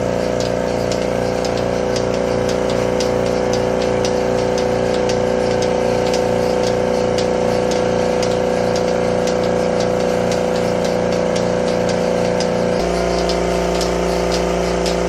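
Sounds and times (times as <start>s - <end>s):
engine humming steadily: 0.0s - 15.0s
light ticks: 0.4s - 12.5s.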